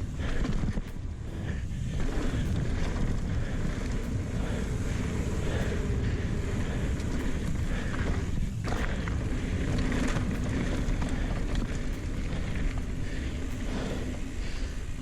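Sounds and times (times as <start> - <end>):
bike clicks and rattles: 0.0 - 15.0
tyres rumbling on dirt: 0.0 - 15.0
wind buffeting camera: 0.0 - 15.0.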